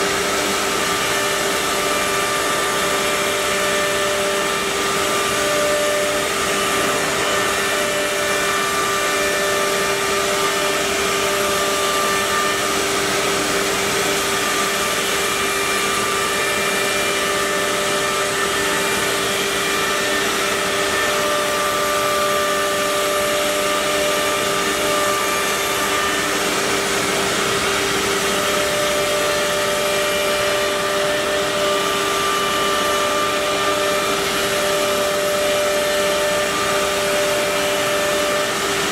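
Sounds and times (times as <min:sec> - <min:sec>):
cnc router spindle whine: 0:00.0 - 0:38.9.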